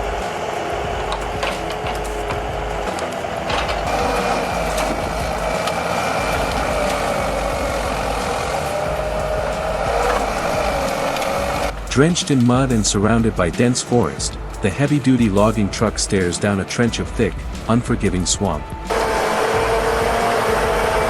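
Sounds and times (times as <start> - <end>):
knocks and clanks: 0.0 - 21.0
truck engine running: 0.0 - 21.0.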